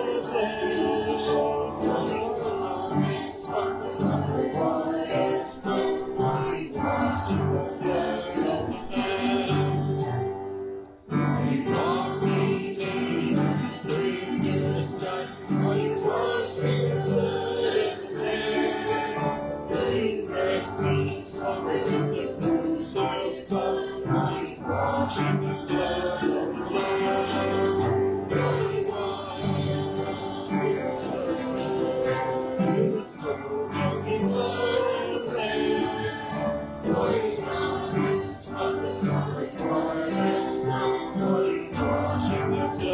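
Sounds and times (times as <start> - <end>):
instrumental accompaniment with beat: 0.0 - 42.9
voices singing: 0.0 - 42.9.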